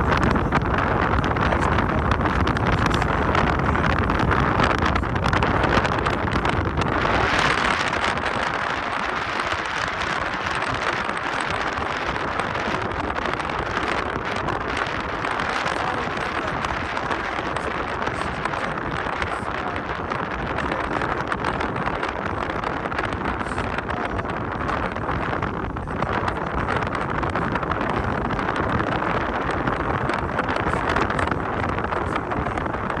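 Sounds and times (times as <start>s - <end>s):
car road noise rumble: 0.0s - 33.0s
wind buffeting microphone: 0.0s - 33.0s.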